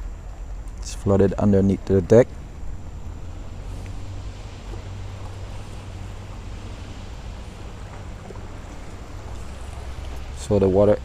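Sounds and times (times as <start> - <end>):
river water rushing: 0.0 - 11.0
wind on microphone: 0.0 - 11.0.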